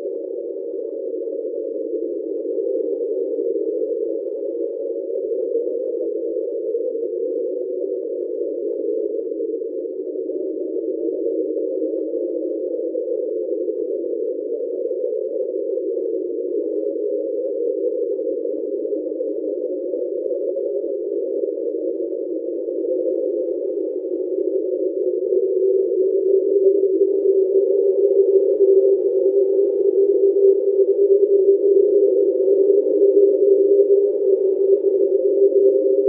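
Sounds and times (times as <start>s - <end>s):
underwater droning hum: 0.0s - 36.0s.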